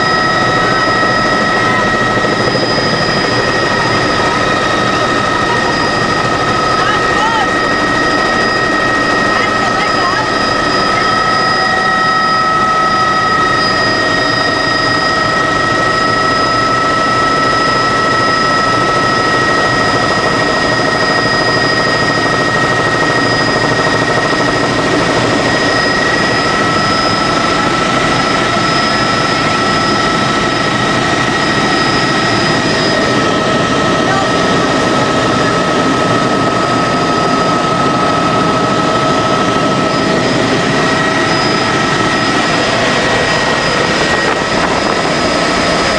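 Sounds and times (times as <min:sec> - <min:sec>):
helicopter rotor and engine noise: 0:00.0 - 0:45.9
high engine whine: 0:00.0 - 0:45.9.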